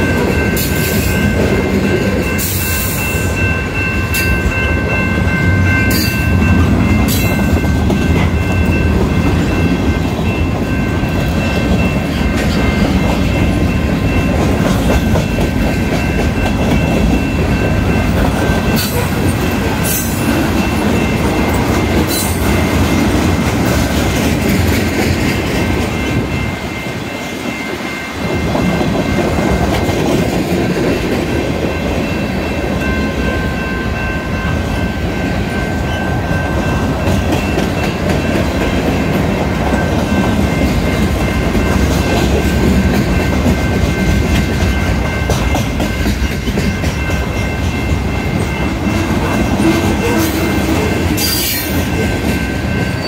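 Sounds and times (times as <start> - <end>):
level crossing warning bell: 0.0 - 53.0
steel wheels rumbling on rail: 0.0 - 53.0.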